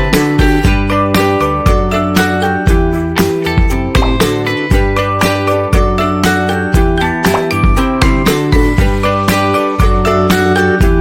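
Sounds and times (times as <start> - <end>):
upbeat acoustic guitar music: 0.0 - 10.3.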